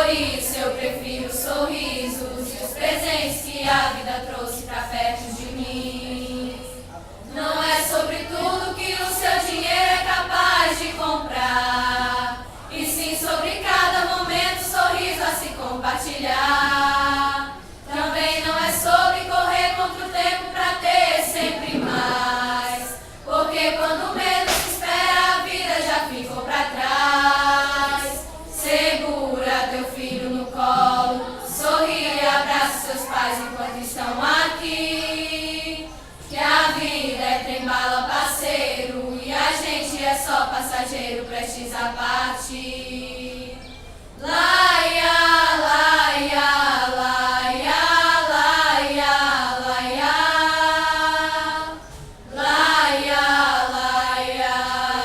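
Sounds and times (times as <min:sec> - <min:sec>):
vocal group singing a cappella: 0:00.0 - 0:55.0.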